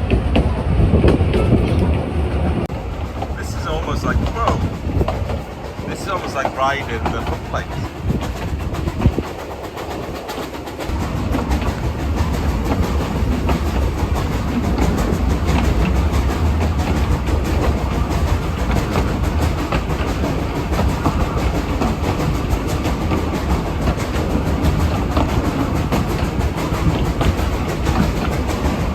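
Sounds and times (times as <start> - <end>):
train rumbling: 0.0 - 28.9
wheels clattering on rails: 0.0 - 28.9.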